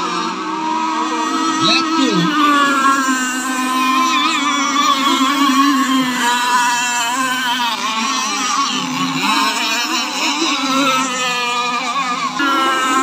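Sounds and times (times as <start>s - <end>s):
rc powerboat engines whining: 0.0s - 13.0s.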